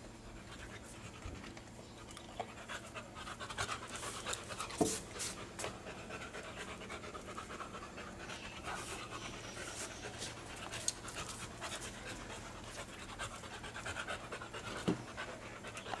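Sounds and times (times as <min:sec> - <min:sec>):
dog panting: 0:02.4 - 0:16.0.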